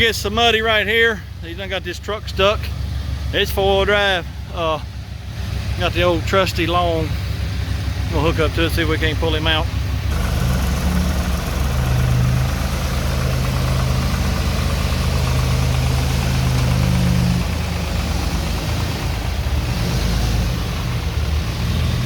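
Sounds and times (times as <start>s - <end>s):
vehicle engine under load: 0.0s - 22.0s.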